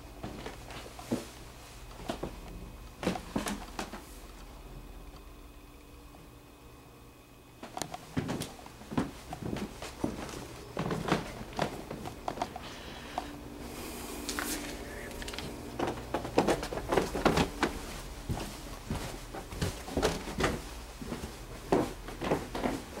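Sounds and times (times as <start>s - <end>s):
footsteps in a small room: 0.0s - 5.3s, 7.5s - 23.0s
faint steady hum: 0.0s - 23.0s.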